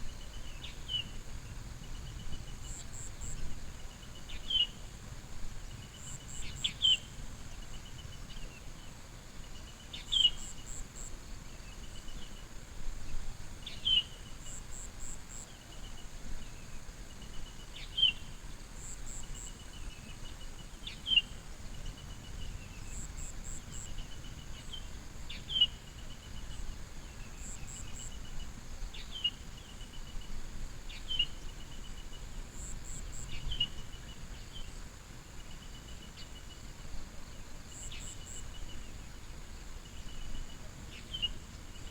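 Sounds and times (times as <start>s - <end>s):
faint insect chirps: 0.0s - 41.9s.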